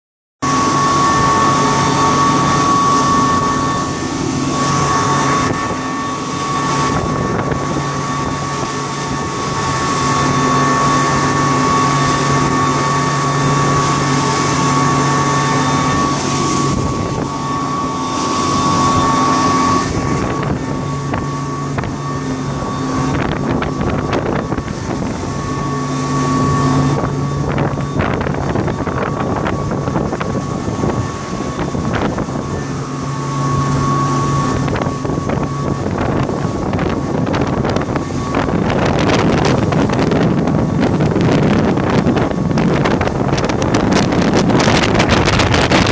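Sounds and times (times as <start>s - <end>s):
outboard motors whining: 0.4s - 45.9s
wind buffeting microphone: 0.4s - 45.9s.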